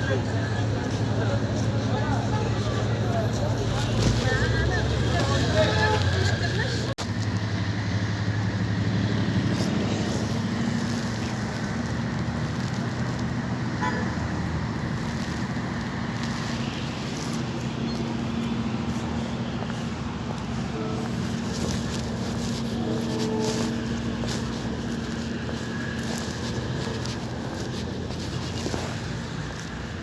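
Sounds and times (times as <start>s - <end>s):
moving vehicle rumble: 0.0s - 30.0s.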